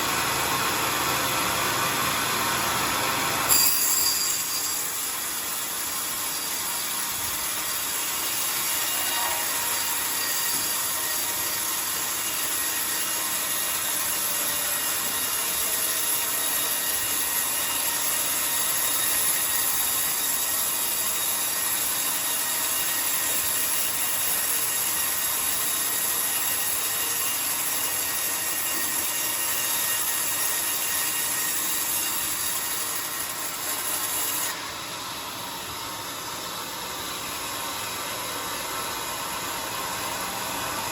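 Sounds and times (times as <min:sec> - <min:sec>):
band saw cutting wood: 0:01.2 - 0:40.9.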